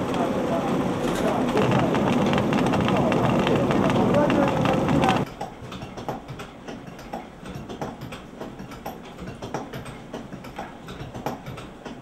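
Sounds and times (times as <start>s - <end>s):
light irregular clacks: 0.0s - 12.0s
mill machinery running: 0.0s - 12.0s.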